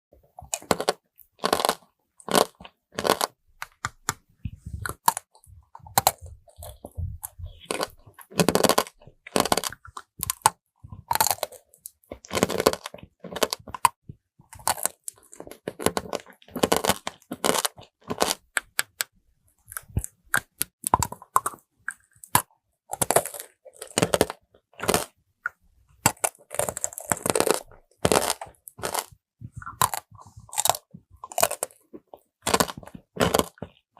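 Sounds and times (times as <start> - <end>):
candy coating crunching: 0.4 - 19.0, 19.6 - 25.2, 26.0 - 33.9
chewing: 4.5 - 18.4, 19.6 - 33.9.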